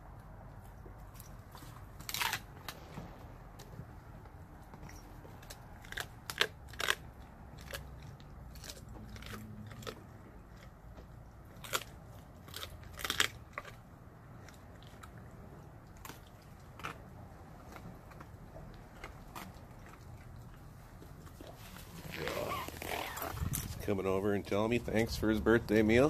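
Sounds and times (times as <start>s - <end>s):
dog chewing with crunches: 0.2s - 26.0s.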